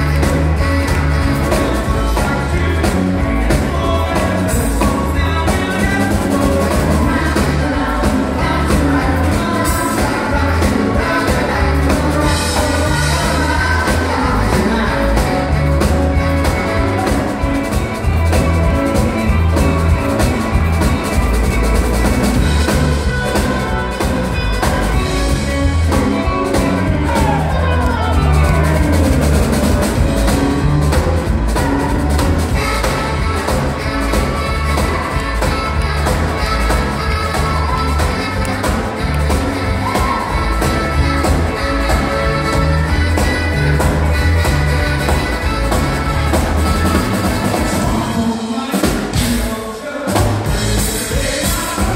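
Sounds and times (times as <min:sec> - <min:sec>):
drum kit beat: 0:00.0 - 0:51.9
electric guitars: 0:00.0 - 0:51.9
person singing: 0:00.0 - 0:51.9
saxophone: 0:00.0 - 0:51.9.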